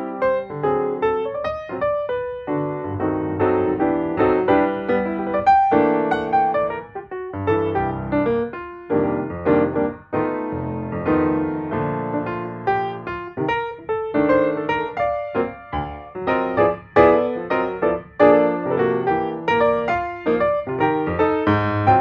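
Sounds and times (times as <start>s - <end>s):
flowing piano music: 0.0s - 22.0s.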